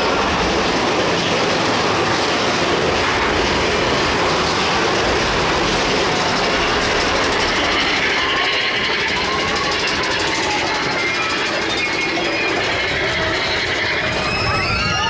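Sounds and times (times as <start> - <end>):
roller coaster wheels rumbling on rails: 0.0 - 15.0.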